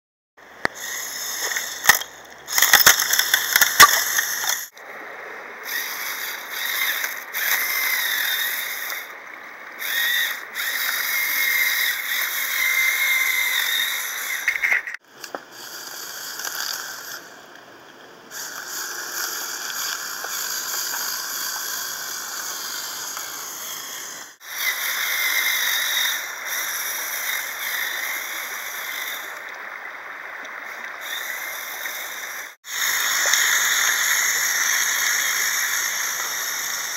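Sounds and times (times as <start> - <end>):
electric motors and gears whining: 0.5 - 36.9.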